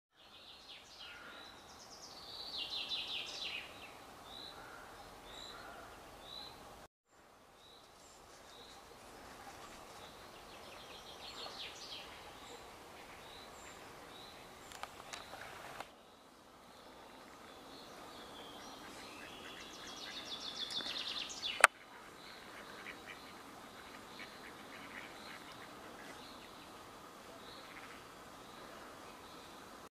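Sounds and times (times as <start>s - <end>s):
soft outdoor background: 0.1s - 29.9s
small birds singing: 0.2s - 6.7s, 9.6s - 29.8s.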